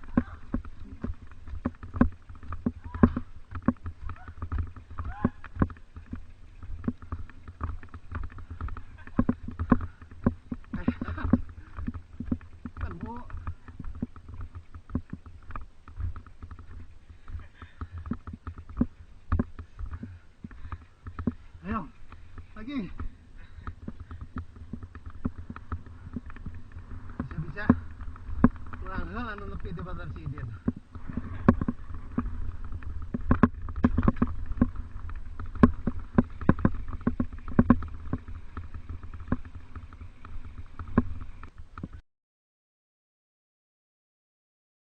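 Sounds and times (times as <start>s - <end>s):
mountain bike rattling: 0.0s - 42.0s.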